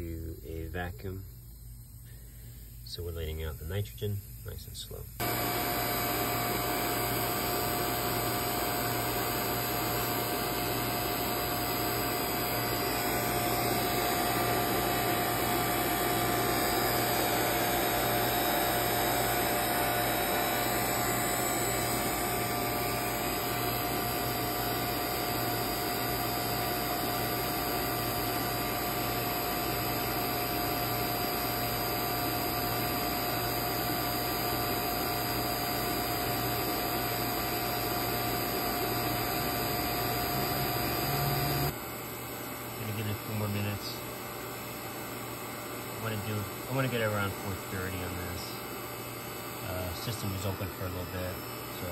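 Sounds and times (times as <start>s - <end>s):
vacuum pump droning: 0.0s - 51.9s.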